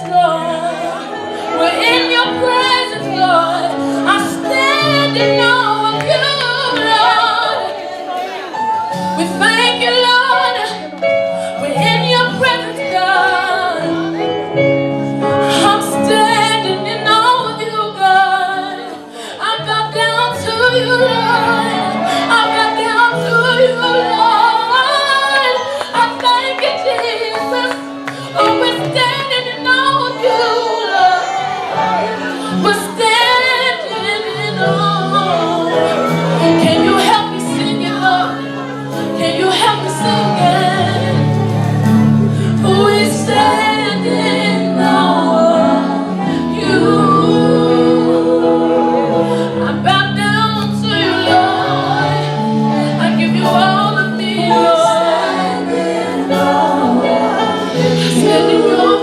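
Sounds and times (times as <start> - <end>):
sustained keyboard chords: 0.0 - 59.0.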